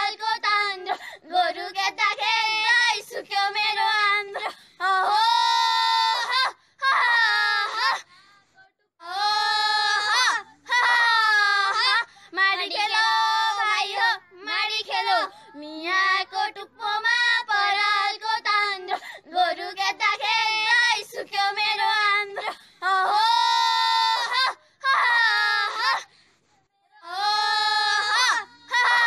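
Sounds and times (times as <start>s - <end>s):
young woman singing unaccompanied: 0.0s - 6.5s, 8.6s - 24.5s, 26.8s - 29.0s.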